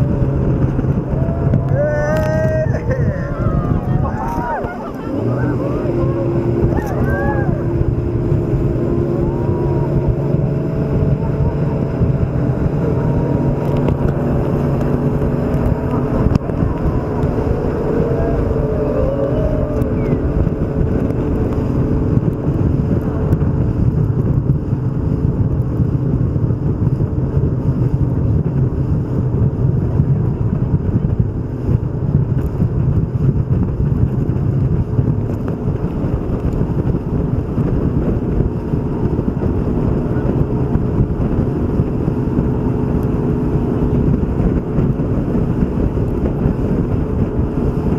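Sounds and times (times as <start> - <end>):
boat engine running: 0.0 - 47.9
water noise: 0.0 - 47.9
wind: 0.0 - 47.9.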